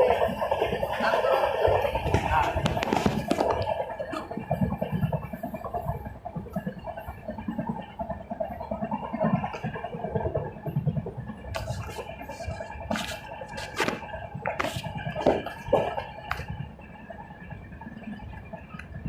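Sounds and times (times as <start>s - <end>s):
train rumbling and rattling on track: 0.0s - 19.0s.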